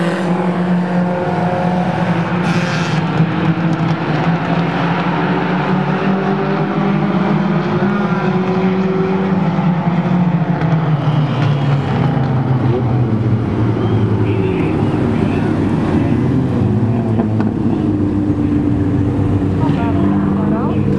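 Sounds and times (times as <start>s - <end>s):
race car engines: 0.0s - 20.9s.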